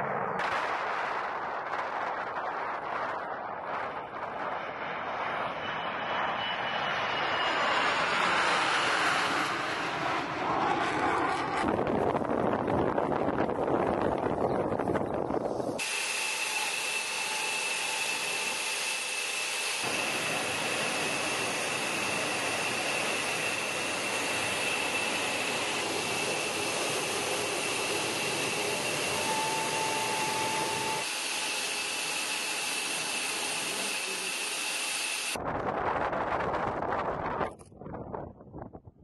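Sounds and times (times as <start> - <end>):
jet engine rush and whine: 0.0 - 37.6.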